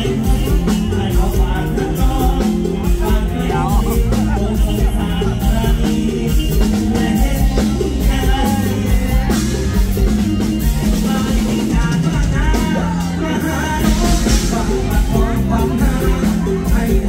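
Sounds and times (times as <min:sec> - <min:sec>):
bass: 0:00.0 - 0:17.0
drum-kit beat: 0:00.0 - 0:17.0
man singing into microphone: 0:00.0 - 0:17.0.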